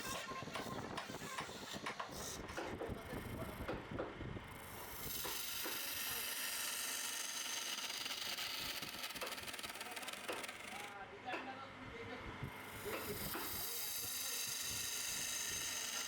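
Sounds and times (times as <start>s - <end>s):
wood rubbing on a lathe: 0.0s - 3.6s, 4.5s - 10.9s, 12.6s - 16.0s.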